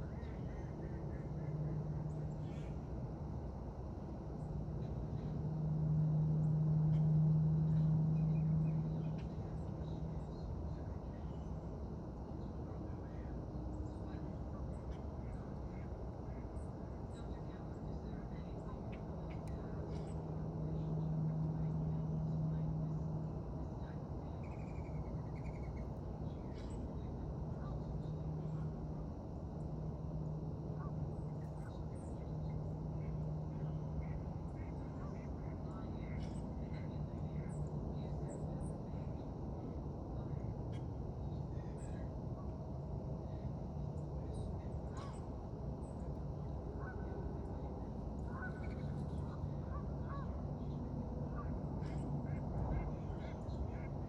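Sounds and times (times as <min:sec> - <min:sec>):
faint bird calls: 0:00.0 - 0:03.0, 0:12.4 - 0:42.6, 0:43.2 - 0:54.0
low hum and rumble: 0:00.0 - 0:54.0.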